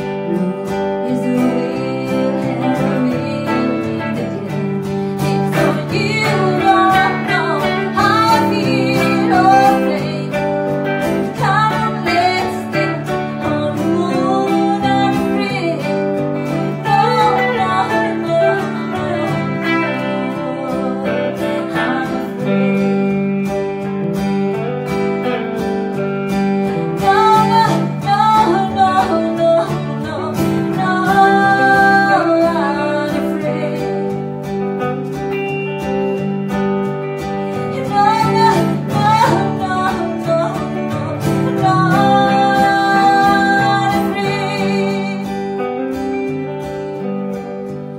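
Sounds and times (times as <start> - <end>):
woman singing: 0.0 - 24.1, 26.6 - 35.3, 37.3 - 47.9
acoustic guitar strumming: 0.0 - 47.9
electric guitar: 0.0 - 47.9.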